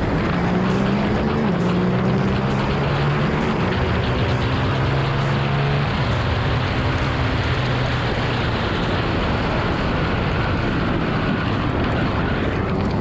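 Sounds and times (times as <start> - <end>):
motorcycle engine: 0.0 - 13.0
wind rushing over microphone: 0.0 - 13.0.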